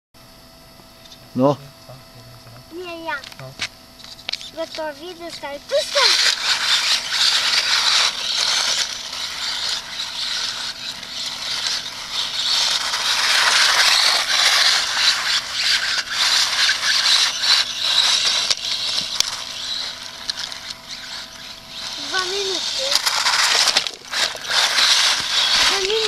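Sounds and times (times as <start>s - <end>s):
toy car tyres scraping concrete: 4.0s - 26.0s.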